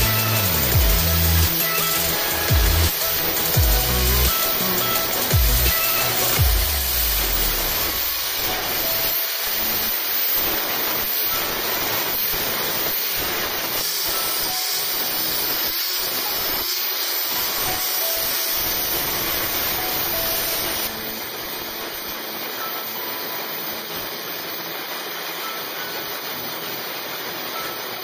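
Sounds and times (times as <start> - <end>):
angle grinder grinding steel: 0.0 - 28.0.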